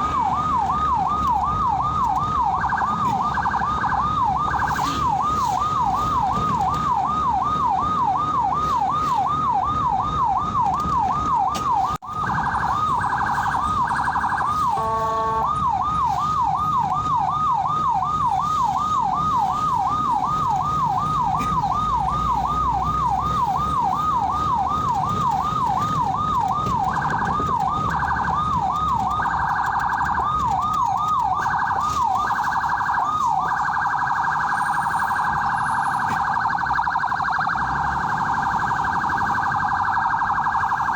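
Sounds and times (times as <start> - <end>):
ambulance siren yelping: 0.0 - 40.9
faint vehicle road noise: 0.0 - 40.9.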